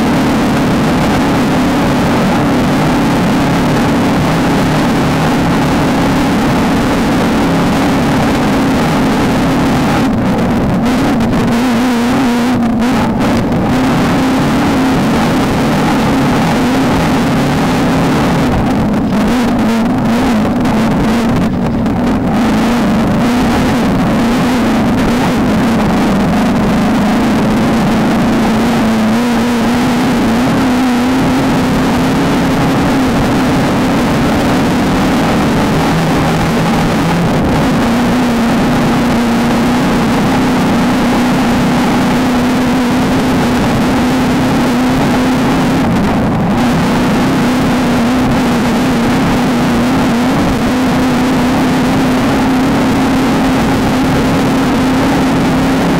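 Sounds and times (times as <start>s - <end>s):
engine running at high revs: 0.0s - 55.9s.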